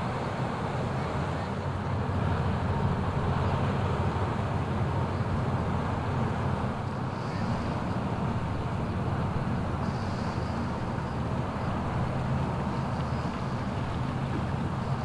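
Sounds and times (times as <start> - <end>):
ship diesel engine rumble: 0.0 - 15.0.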